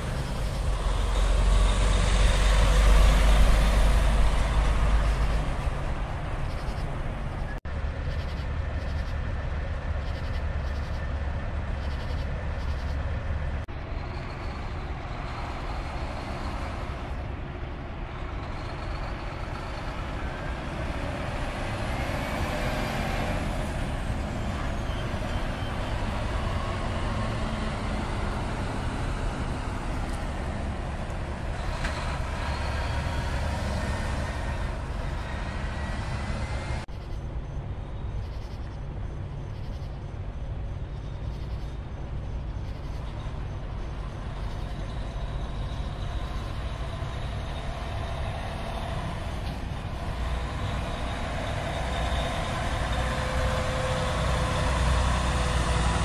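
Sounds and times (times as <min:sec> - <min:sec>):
diesel truck engines running: 0:00.0 - 0:56.0
truck pulling away and passing: 0:00.0 - 0:56.0.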